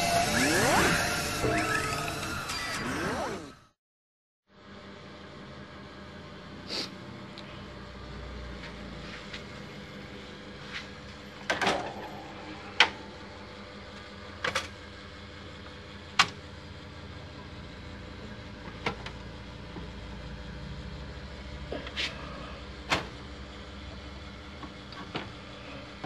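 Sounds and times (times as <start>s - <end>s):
steady low hum: 4.6s - 26.0s.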